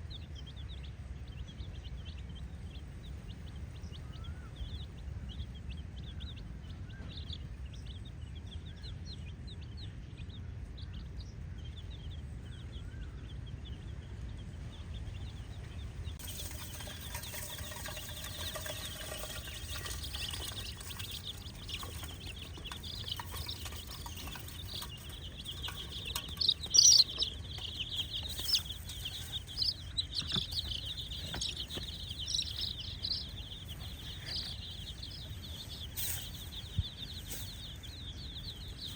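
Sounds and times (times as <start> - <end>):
baby chicks peeping: 0.0 - 38.9
low steady rumble: 0.0 - 38.9.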